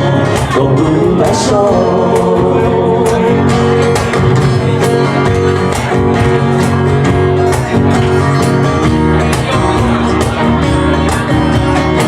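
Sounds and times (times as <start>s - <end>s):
band playing instrumental: 0.0s - 12.0s.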